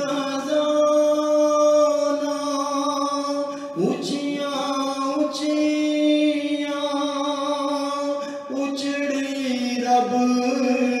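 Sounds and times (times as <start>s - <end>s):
man singing devotional song: 0.0s - 11.0s.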